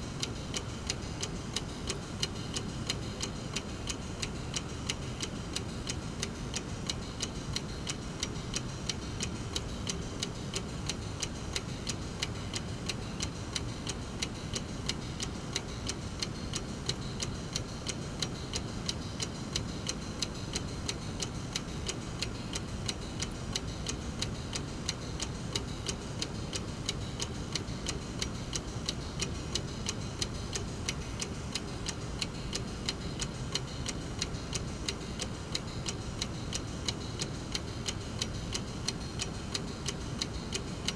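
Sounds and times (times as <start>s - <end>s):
clock ticking: 0.2s - 40.9s.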